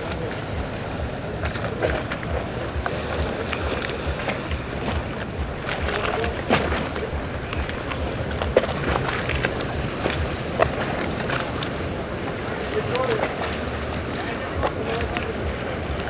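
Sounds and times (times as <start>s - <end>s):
waves slapping boat hulls: 0.0s - 16.0s
wind buffeting microphone: 0.0s - 16.0s.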